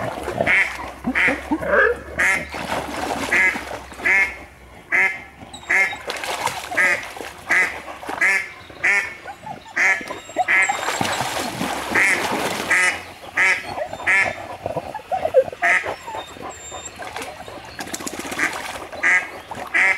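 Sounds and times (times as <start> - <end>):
ducks quacking: 0.0 - 19.9.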